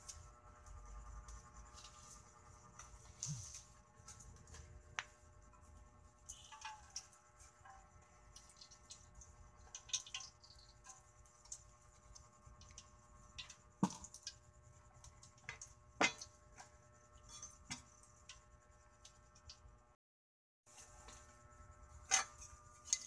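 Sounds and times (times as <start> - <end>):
oil crackling in a wok: 0.0 - 19.9, 21.9 - 23.0.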